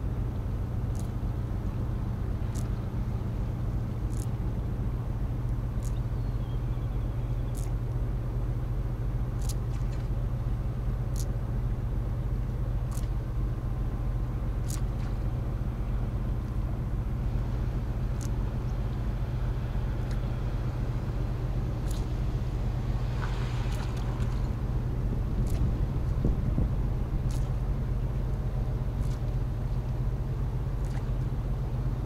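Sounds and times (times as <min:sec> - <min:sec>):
engine low hum: 0:00.0 - 0:32.0.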